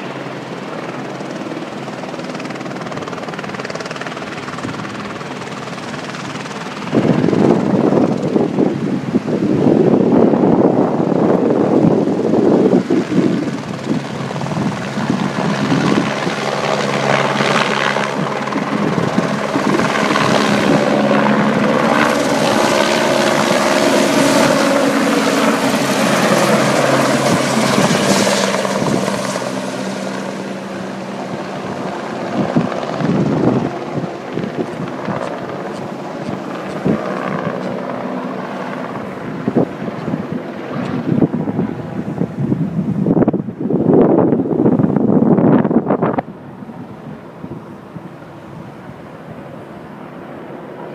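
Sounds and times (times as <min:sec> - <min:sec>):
helicopter passing: 0:00.0 - 0:50.9.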